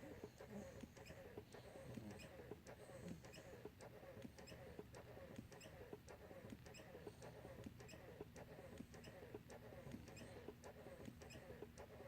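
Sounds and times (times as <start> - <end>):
low steady hum of a baby swing: 0.0 - 12.0
soft irregular clicking: 0.0 - 12.0.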